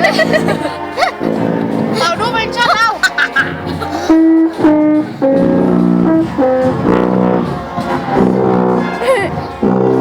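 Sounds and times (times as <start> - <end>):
marching band brass chords: 0.0 - 10.0.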